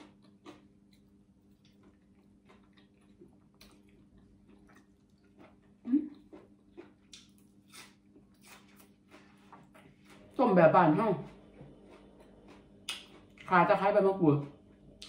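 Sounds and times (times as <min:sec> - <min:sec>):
chewing crisp greens: 0:00.0 - 0:13.8
faint steady hum: 0:00.0 - 0:15.0.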